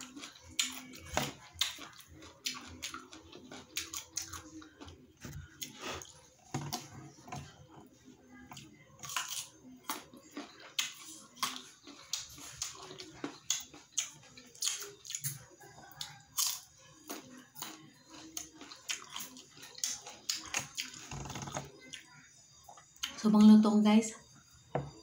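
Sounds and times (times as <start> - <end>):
wet chewing and crunching fruit: 0.0 - 23.5.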